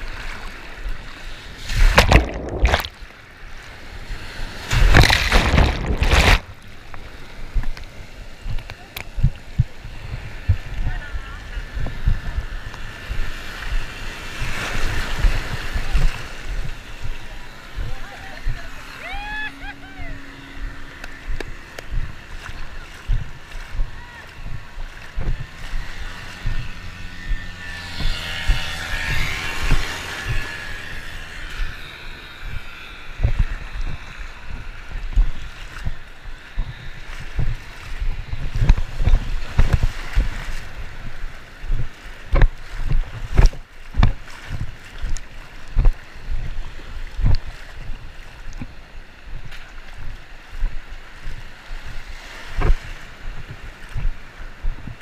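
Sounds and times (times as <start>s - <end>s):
surf sloshing and splashing: 0.0s - 55.0s
water thumping camera housing: 1.7s - 3.1s, 4.7s - 11.0s, 11.6s - 46.6s, 47.2s - 51.4s, 52.5s - 55.0s.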